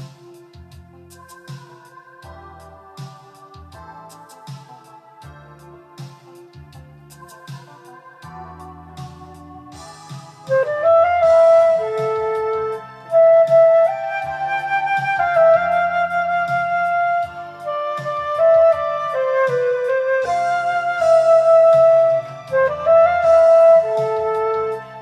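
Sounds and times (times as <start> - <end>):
flute playing a pop melody: 0.0 - 5.6, 7.0 - 25.0
karaoke backing track: 0.0 - 25.0.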